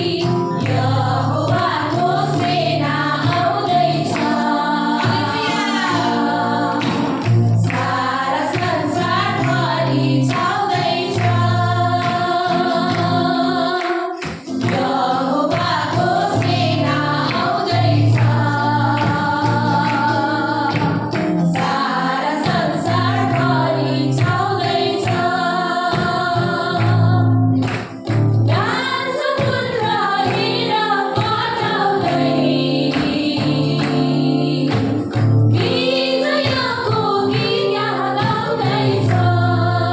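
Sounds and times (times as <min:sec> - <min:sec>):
women singing worship song: 0:00.0 - 0:39.9.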